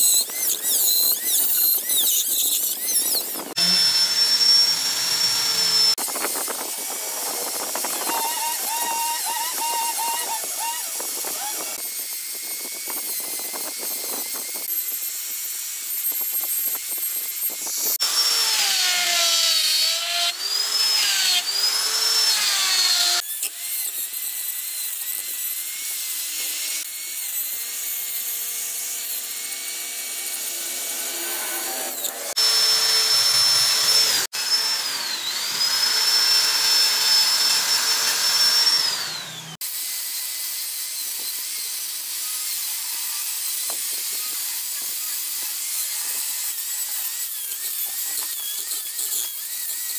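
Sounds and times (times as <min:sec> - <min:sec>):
rotary tool whining: 0:00.0 - 0:39.8, 0:40.5 - 0:49.9.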